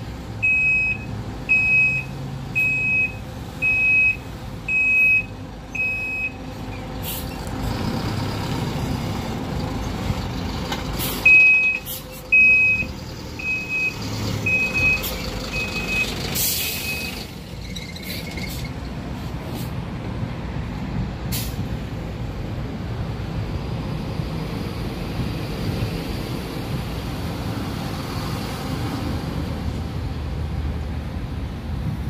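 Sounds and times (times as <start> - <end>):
diesel buses idling: 0.0 - 32.0.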